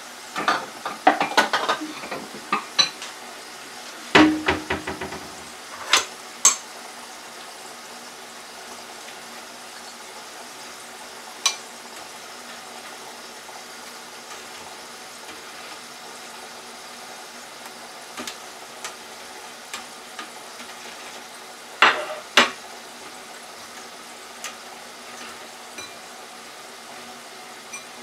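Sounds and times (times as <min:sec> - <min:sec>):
oil sizzling in deep fryer: 0:00.0 - 0:28.0.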